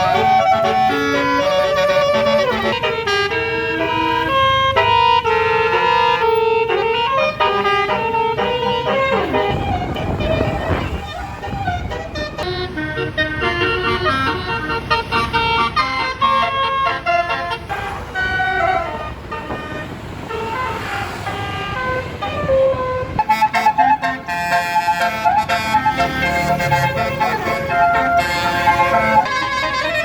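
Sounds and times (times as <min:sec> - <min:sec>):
engine and traffic rumble: 0:00.0 - 0:30.0
musical air horn melody: 0:00.0 - 0:30.0.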